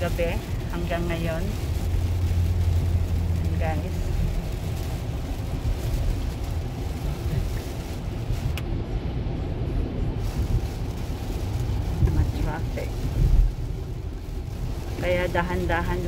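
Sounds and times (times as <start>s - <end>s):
hiss of rain and spray: 0.0s - 16.0s
tyre and engine rumble: 0.0s - 16.0s.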